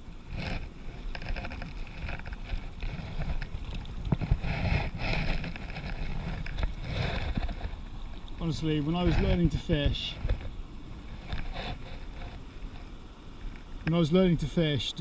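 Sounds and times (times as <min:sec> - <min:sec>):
wind rumbling on microphone: 0:00.0 - 0:14.2
running stream water: 0:00.0 - 0:15.0.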